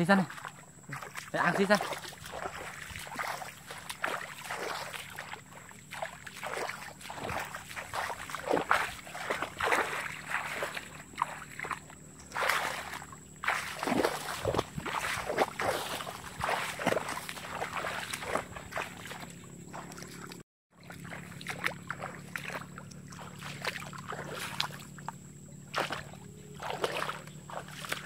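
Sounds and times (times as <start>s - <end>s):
footsteps splashing through water: 0.0s - 28.0s.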